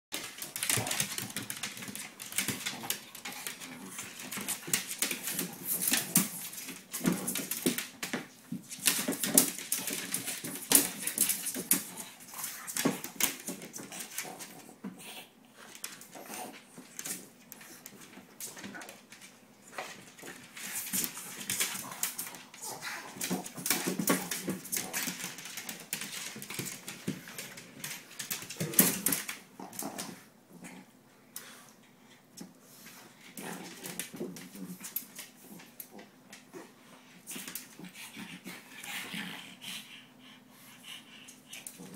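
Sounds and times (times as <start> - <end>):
dogs scuffling: 0.1 - 30.6, 32.4 - 39.4.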